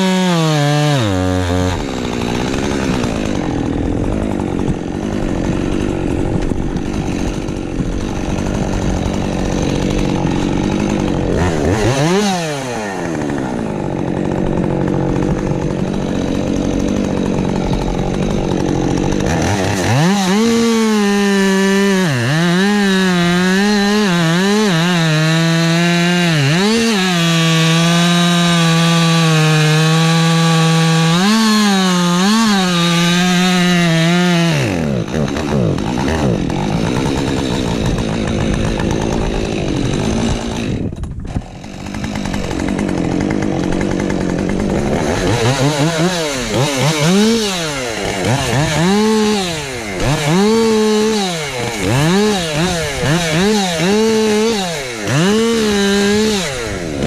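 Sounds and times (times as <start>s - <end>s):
chainsaw engine running: 0.0s - 57.0s.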